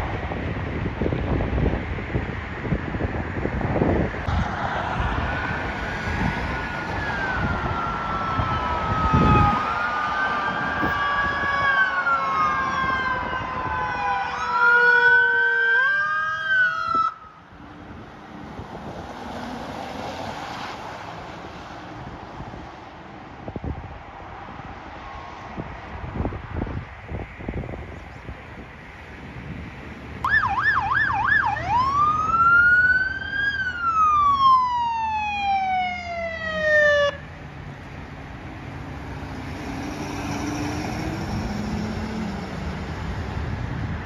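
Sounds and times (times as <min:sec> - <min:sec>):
wind and traffic hiss: 0:00.0 - 0:44.0
emergency sirens wailing: 0:03.8 - 0:26.3, 0:30.2 - 0:44.0.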